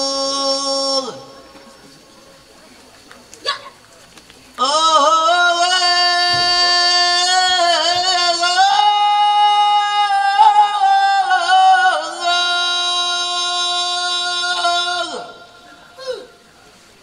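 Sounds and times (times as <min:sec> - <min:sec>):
person singing unaccompanied: 0:00.0 - 0:01.8, 0:04.6 - 0:16.4.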